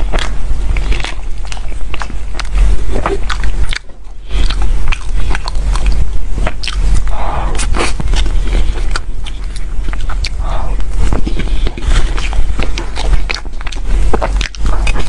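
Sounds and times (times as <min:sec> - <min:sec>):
chewing and biting cake: 0:00.0 - 0:15.0.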